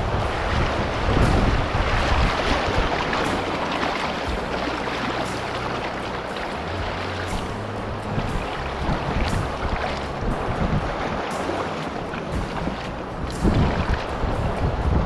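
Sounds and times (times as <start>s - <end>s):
river water rushing: 0.0s - 15.0s
wind buffeting microphone: 0.0s - 15.0s.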